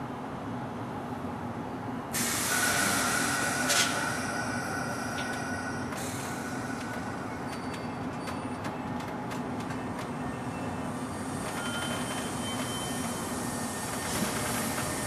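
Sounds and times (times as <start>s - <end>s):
train rumbling slowly: 0.0s - 15.0s.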